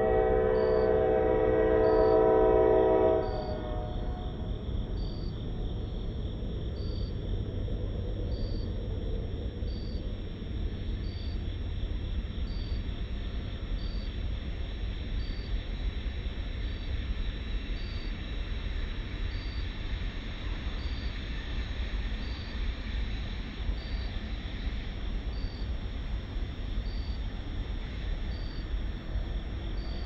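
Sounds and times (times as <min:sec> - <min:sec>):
crickets trilling: 0:00.0 - 0:30.0
distant train rumble: 0:00.0 - 0:30.0.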